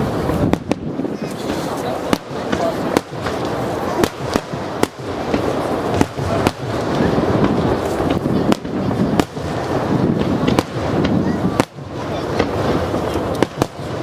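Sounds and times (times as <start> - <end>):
fireworks bangs: 0.0 - 14.0
rumble of explosions: 0.0 - 14.0.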